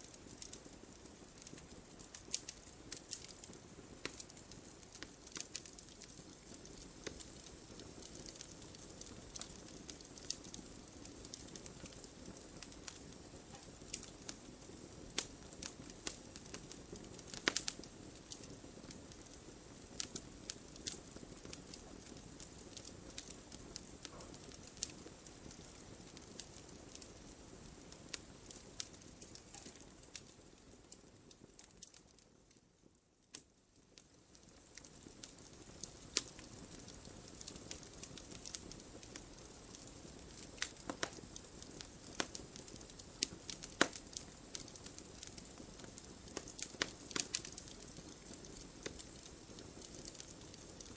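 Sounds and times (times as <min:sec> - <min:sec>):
fire popping: 0:00.0 - 0:50.9
low steady hiss: 0:00.0 - 0:50.9
wood fire crackling: 0:00.0 - 0:50.9.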